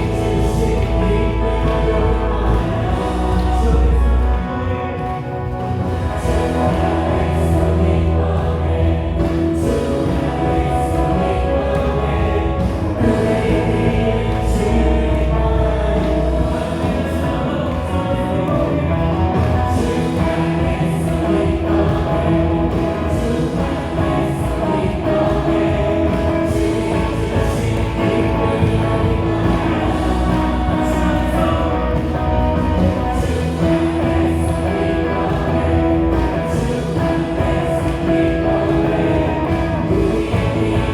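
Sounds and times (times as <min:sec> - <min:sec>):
bass guitar: 0:00.0 - 0:40.9
drums: 0:00.0 - 0:40.9
electric guitar: 0:00.0 - 0:40.9
group of singers: 0:00.0 - 0:40.9
keyboard: 0:00.0 - 0:40.9.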